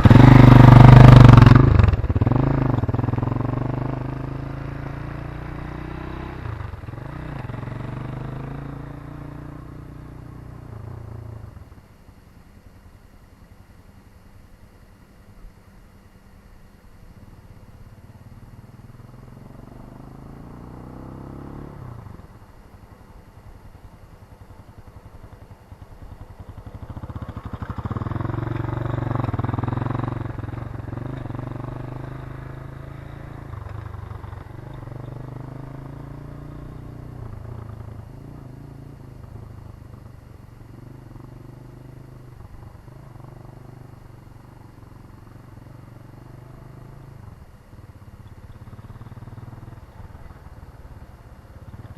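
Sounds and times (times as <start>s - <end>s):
motorcycle engine revving: 0.0s - 11.8s, 18.0s - 51.9s.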